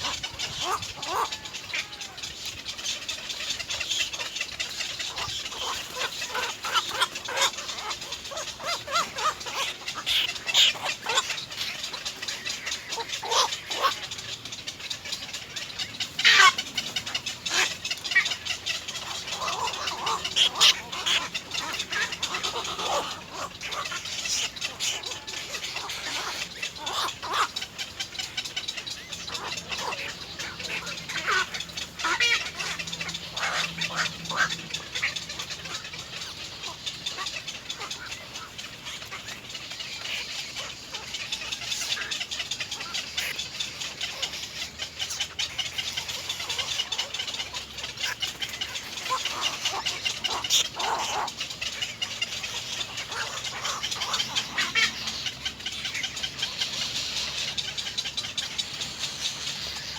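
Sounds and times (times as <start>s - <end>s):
nestlings chattering and squawking: 0.0s - 59.9s.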